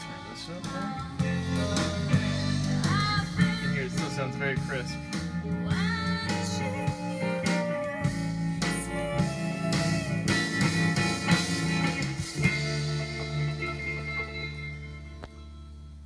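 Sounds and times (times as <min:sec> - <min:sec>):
guitar and drums music: 0:00.0 - 0:16.0.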